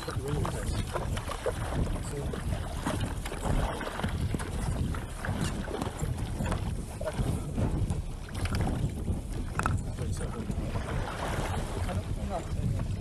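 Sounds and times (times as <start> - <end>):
water slapping boat hull: 0.0 - 13.0
wind buffeting microphone: 0.0 - 13.0.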